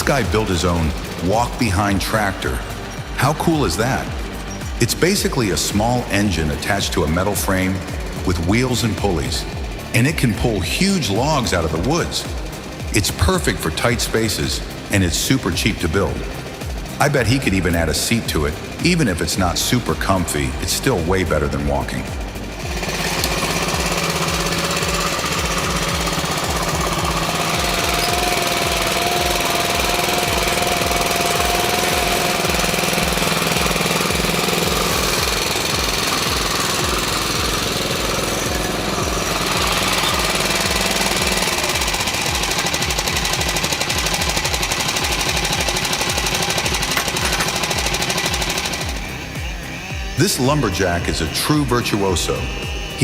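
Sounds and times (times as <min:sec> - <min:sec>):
small engine running: 0:00.0 - 0:53.0.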